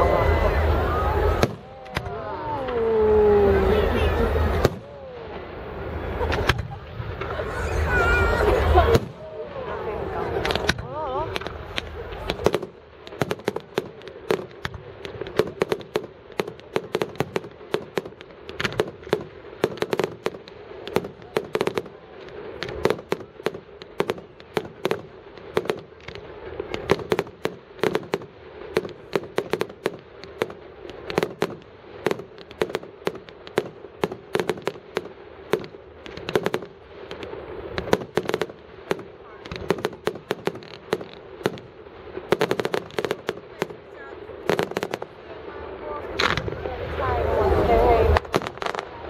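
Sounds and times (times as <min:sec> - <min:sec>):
fireworks bangs and pops: 0:00.0 - 0:49.0.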